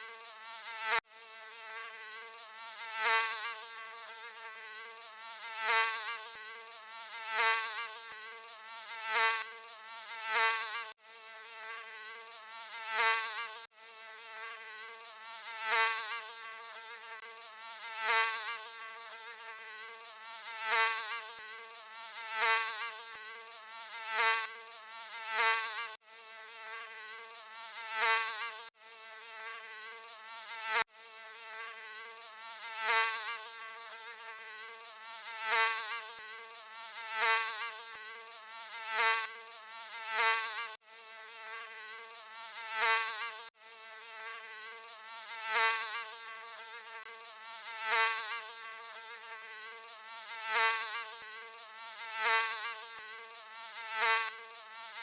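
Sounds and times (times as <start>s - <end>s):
mosquito buzzing: 0.0s - 55.0s.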